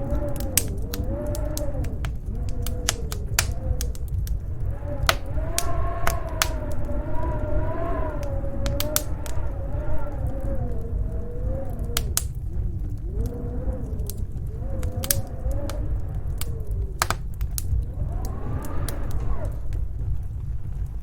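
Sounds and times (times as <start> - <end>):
fire crackling and popping: 0.0 - 21.0
howling storm wind: 0.0 - 21.0.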